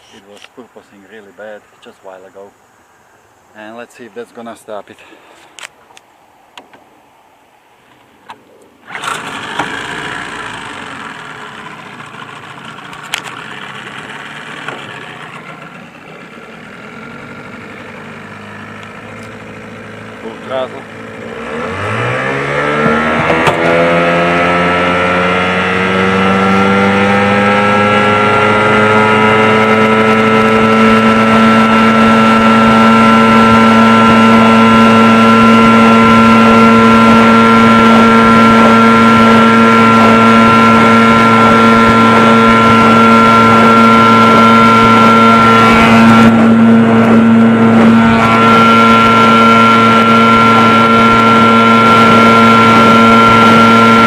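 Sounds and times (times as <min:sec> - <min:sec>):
outboard motor at full throttle: 0:08.8 - 0:54.0.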